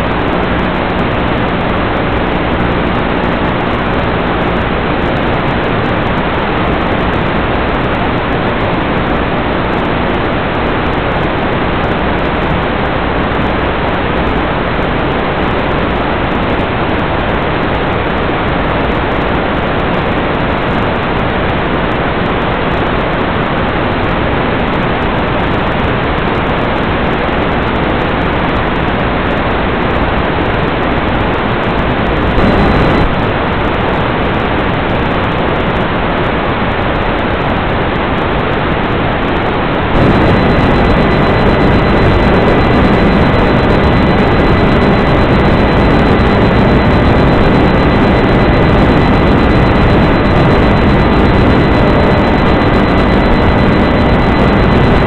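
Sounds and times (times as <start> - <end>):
rushing radio noise: 0.0 - 55.0.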